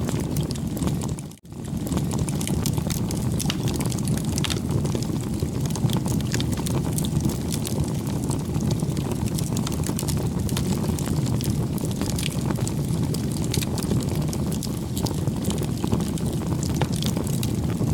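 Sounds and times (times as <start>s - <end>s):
wood bonfire crackling: 0.0s - 17.9s.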